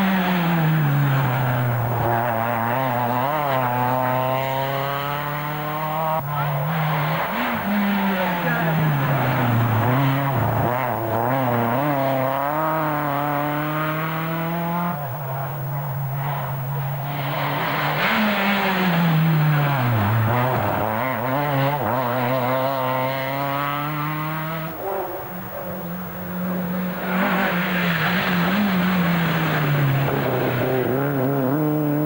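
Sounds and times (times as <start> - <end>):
rally car engines revving: 0.0 - 32.0.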